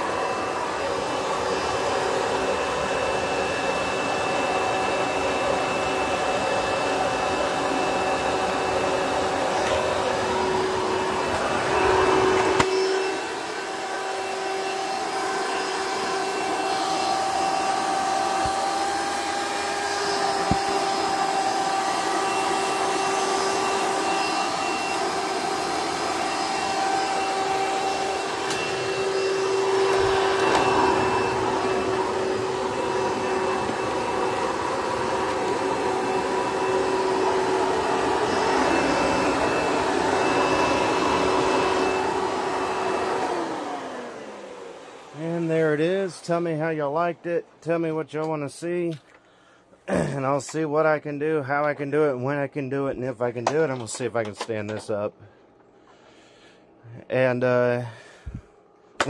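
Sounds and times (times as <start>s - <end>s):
vacuum cleaners whining: 0.0s - 59.0s.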